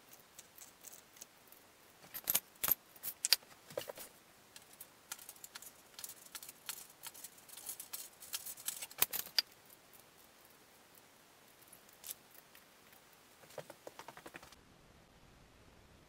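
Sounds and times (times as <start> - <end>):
small parts clicking and rattling: 0.0 - 14.6.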